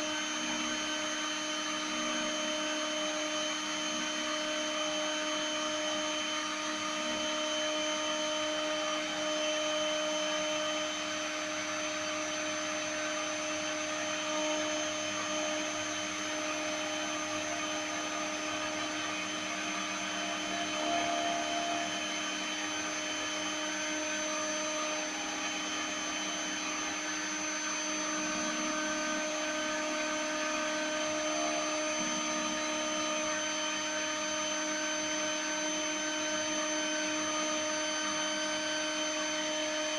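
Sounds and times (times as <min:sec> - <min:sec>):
mill spindle whine: 0:00.0 - 0:39.9.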